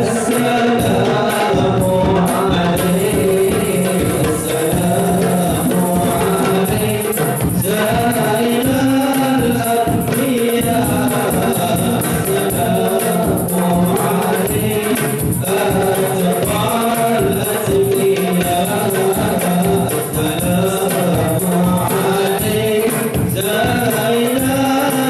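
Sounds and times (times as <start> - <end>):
barrel drum rhythm: 0.0 - 25.0
frame drums: 0.0 - 25.0
male group singing: 0.0 - 25.0.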